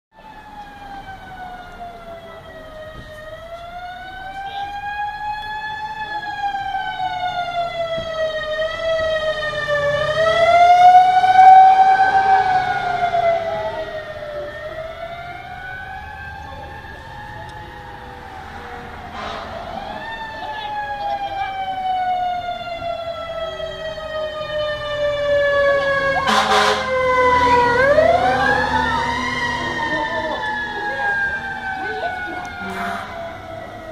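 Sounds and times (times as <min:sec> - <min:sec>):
siren wailing: 0:00.2 - 0:33.9.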